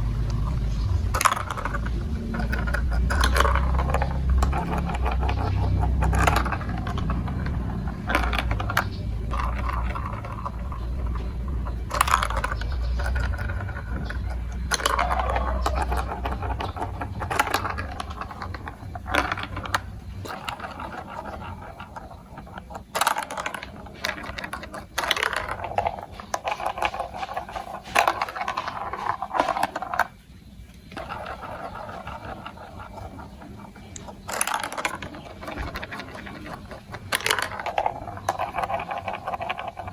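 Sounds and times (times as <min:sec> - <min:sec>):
low rolling rumble: 0:00.0 - 0:39.9
marbles clattering through marble run: 0:00.0 - 0:39.9.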